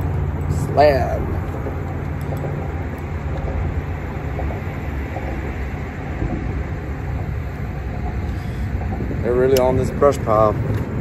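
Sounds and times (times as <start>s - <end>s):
motor rumbling and humming: 0.0s - 11.0s.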